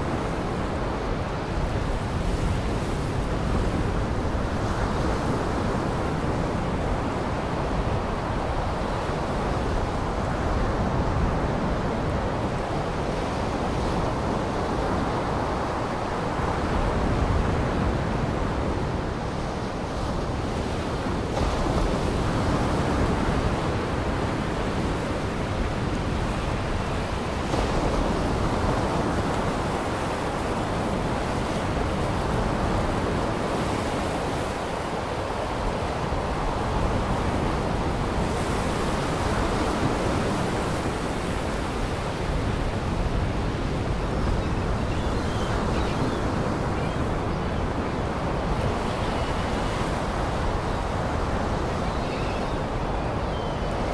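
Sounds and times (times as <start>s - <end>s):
waves breaking on shore: 0.0s - 53.9s
wind: 0.0s - 53.9s.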